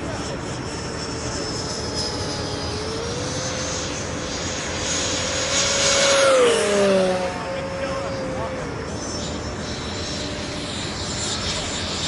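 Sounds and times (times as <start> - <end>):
aircraft flying past: 0.0 - 12.0
jet engine whines: 0.0 - 12.0.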